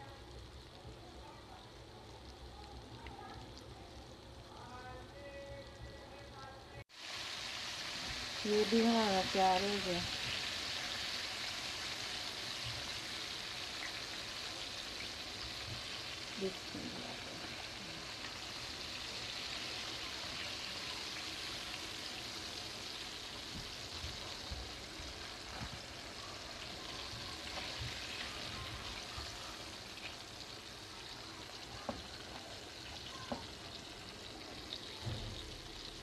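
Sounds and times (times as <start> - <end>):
chicken deep-frying in hot oil: 0.0 - 36.0.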